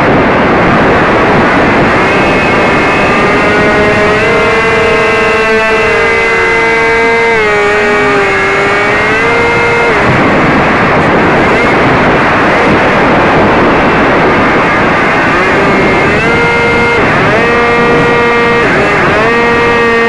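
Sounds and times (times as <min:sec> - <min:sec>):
model airplane motor drone: 0:00.0 - 0:20.0
wind rush on microphone: 0:00.0 - 0:20.0.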